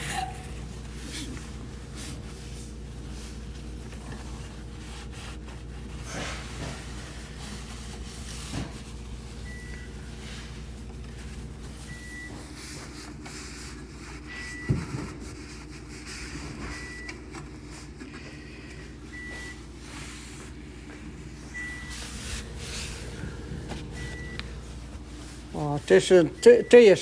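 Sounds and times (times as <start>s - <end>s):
low electrical hum: 0.0s - 27.0s
refrigerator beeping: 0.0s - 27.0s.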